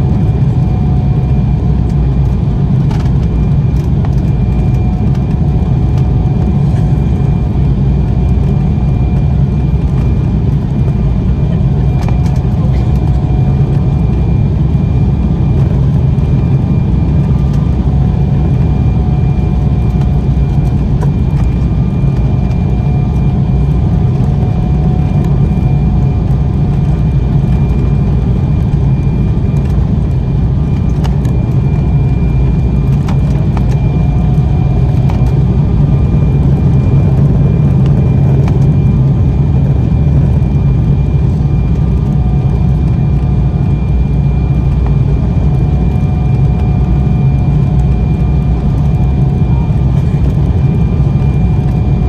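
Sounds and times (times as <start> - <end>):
faint steady whine: 0.0 - 52.0
jet airliner cabin rumble: 0.0 - 52.0.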